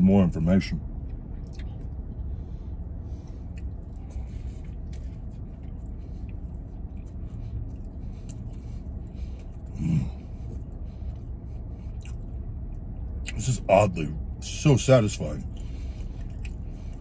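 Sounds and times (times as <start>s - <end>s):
low rumble in truck cab: 0.0s - 17.0s
man chewing food: 1.0s - 13.4s, 15.4s - 17.0s.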